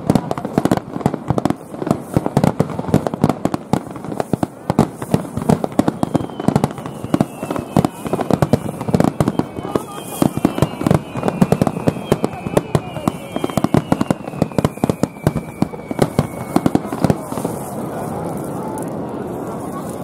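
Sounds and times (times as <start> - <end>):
firework shells bursting: 0.2 - 19.9.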